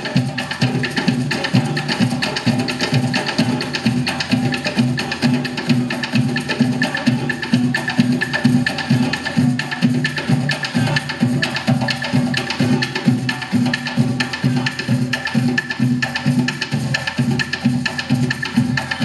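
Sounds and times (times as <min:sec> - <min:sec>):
hand drums beating: 0:00.0 - 0:19.0.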